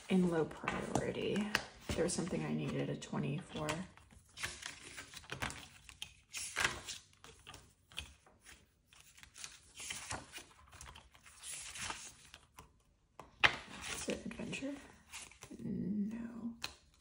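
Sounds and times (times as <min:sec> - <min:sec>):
plastic pockets and pages rustling: 0:00.0 - 0:12.8, 0:13.4 - 0:15.6.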